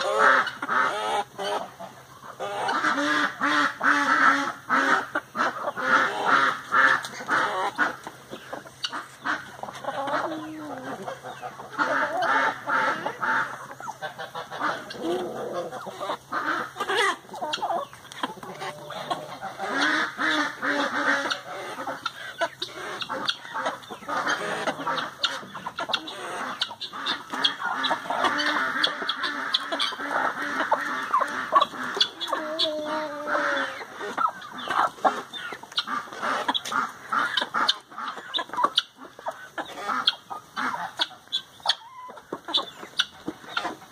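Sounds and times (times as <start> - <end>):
chickens clucking: 0.0 - 43.9
guineafowl honking calls: 0.0 - 43.9.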